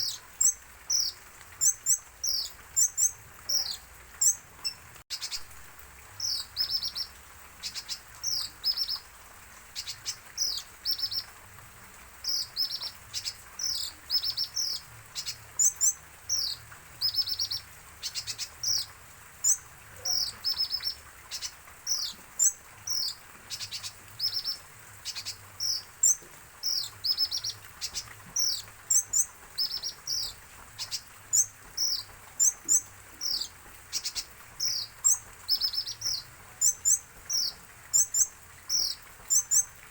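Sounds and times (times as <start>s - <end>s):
sunbird chirping: 0.0s - 5.5s, 6.1s - 9.1s, 9.8s - 11.3s, 12.2s - 39.7s.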